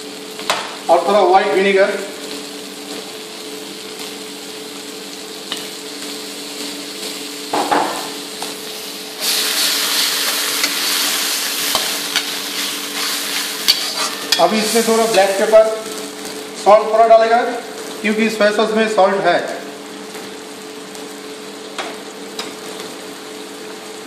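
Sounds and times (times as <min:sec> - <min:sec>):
steady hum: 0:00.0 - 0:23.1
vegetables frying in a wok: 0:00.0 - 0:24.0.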